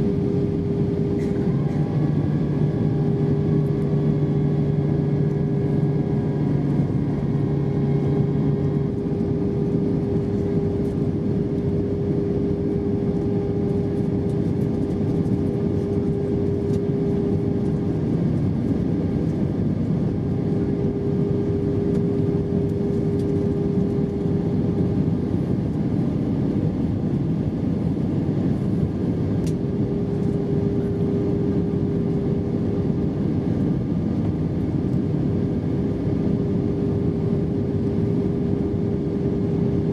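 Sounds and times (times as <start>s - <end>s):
jet engines droning: 0.0s - 39.9s
low hum: 0.0s - 39.9s.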